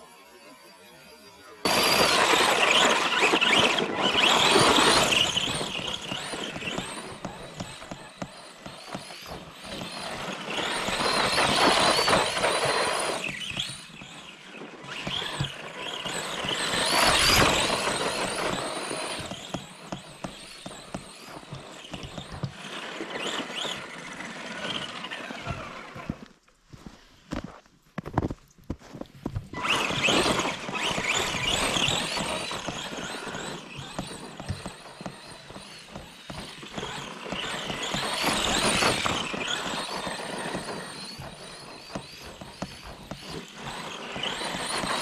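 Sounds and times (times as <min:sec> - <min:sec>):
toy truck motor and gears whining: 0:00.0 - 0:27.4, 0:28.9 - 0:45.0.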